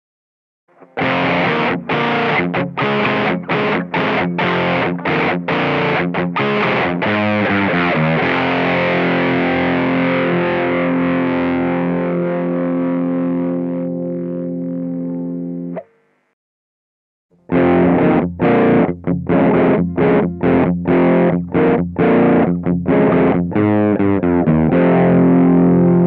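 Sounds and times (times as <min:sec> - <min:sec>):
overdriven electric guitar chords: 0:00.7 - 0:15.9, 0:17.4 - 0:26.0.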